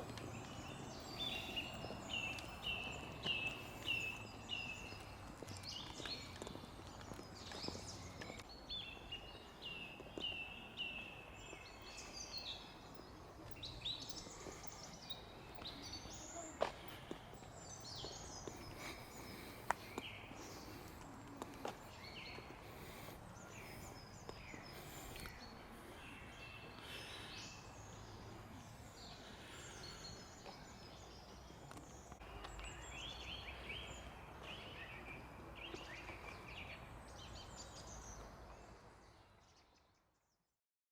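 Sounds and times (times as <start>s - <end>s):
songbirds chirping: 0.0s - 40.6s.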